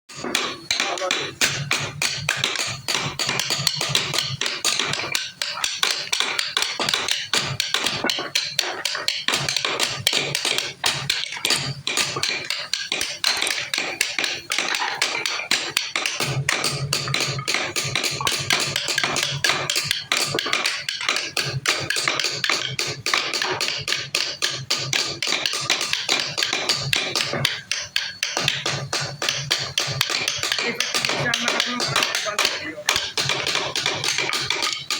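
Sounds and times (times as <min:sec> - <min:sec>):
hand tool tapping wood: 0:00.1 - 0:34.9
music: 0:00.1 - 0:34.9.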